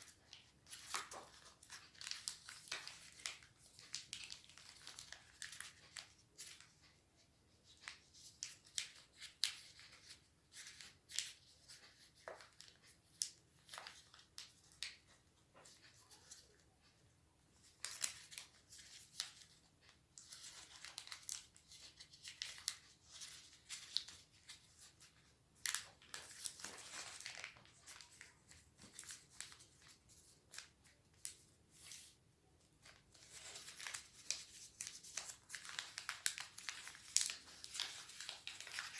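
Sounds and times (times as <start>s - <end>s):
paper being folded and creased: 0.0s - 16.9s, 17.6s - 32.2s, 32.8s - 38.9s.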